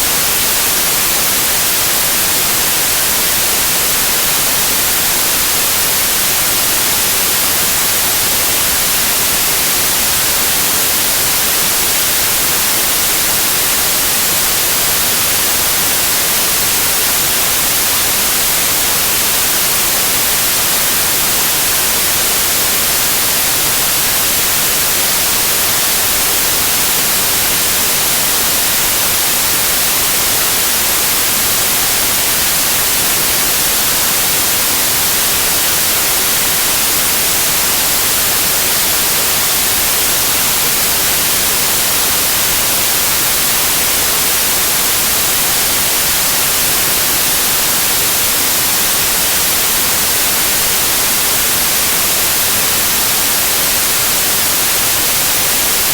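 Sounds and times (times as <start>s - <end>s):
television static hiss: 0.0s - 55.9s.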